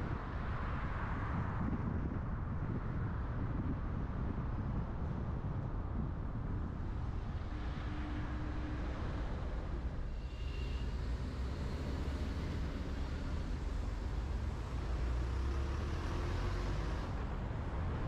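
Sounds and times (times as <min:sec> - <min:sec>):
car tyres and engine rumble: 0:00.0 - 0:18.0.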